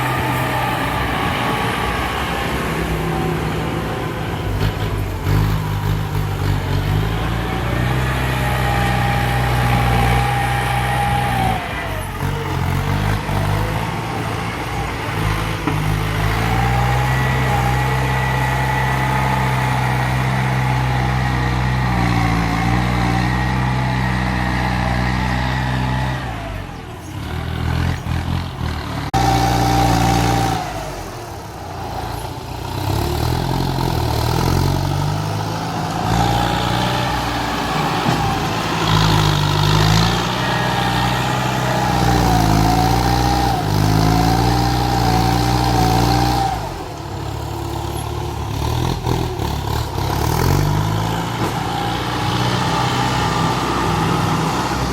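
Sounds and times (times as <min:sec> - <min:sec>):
tractor engine revving: 0:00.0 - 0:54.9.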